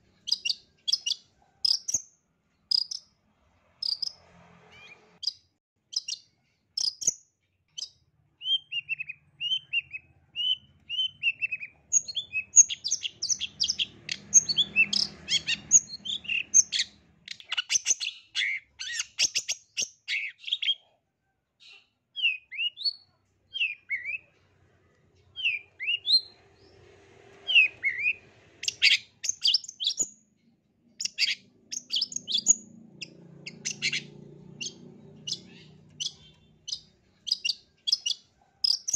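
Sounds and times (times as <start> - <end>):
bird singing sharp high chirps: 0.1 - 2.1, 2.7 - 3.1, 3.8 - 20.8, 21.7 - 24.3, 25.4 - 26.8, 27.4 - 30.2, 31.0 - 38.9.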